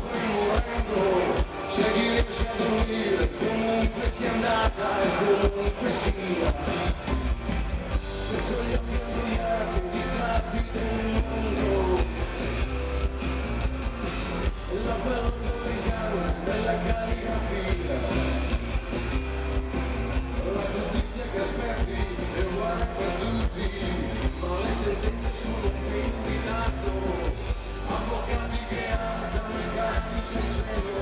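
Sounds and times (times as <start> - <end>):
rock music with guitar: 0.0 - 31.0.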